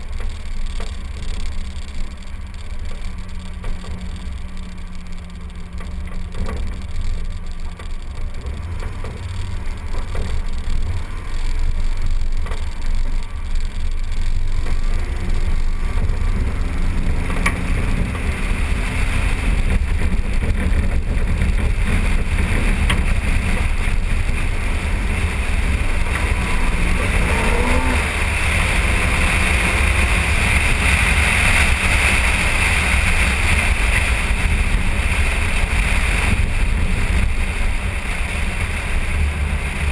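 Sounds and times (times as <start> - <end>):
car engine: 0.0 - 39.9
tyres on gravel: 0.0 - 39.9
wind rumble on microphone: 0.0 - 39.9.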